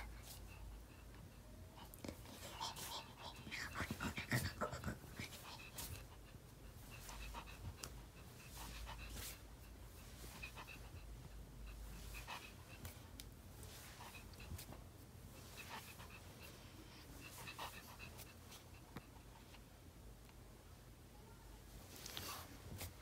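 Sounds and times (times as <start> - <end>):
dog panting softly: 0.0 - 19.9.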